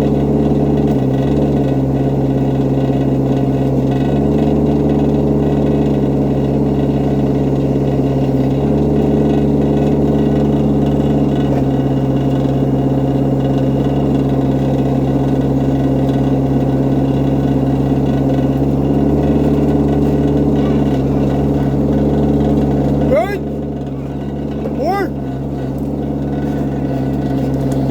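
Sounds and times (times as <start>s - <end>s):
excavator engine humming: 0.0s - 27.9s.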